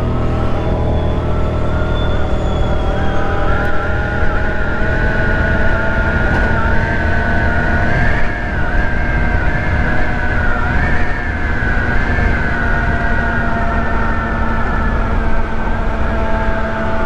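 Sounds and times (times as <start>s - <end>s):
scooter engine whine: 0.0s - 17.0s
wind rumbling on microphone: 0.0s - 17.0s.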